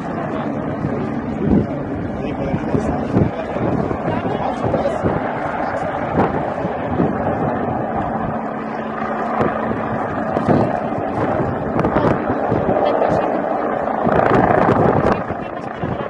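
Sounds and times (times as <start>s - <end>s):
helicopter rotor rumble: 0.0s - 16.0s
wind buffeting microphone: 0.0s - 16.0s.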